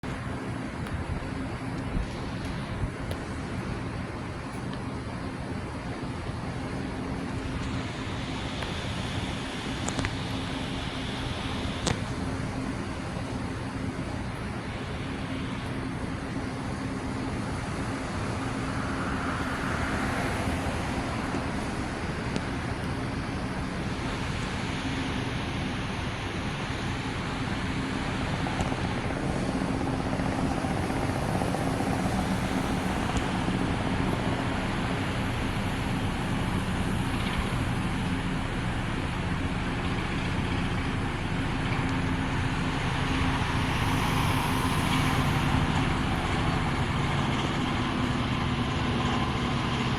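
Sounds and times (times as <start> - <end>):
helicopter flying past: 6.5 - 49.9.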